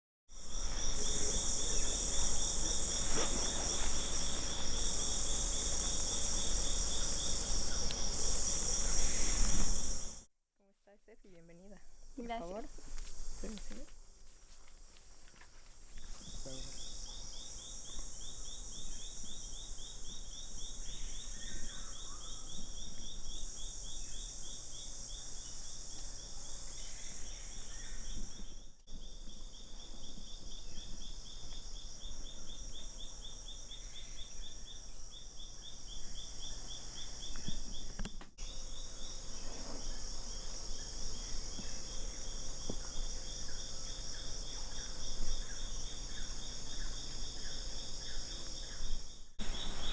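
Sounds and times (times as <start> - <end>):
insect chorus trilling: 0.3 - 10.3, 11.5 - 49.9
rapidly pulsing insect trill: 0.3 - 10.3, 11.1 - 49.9.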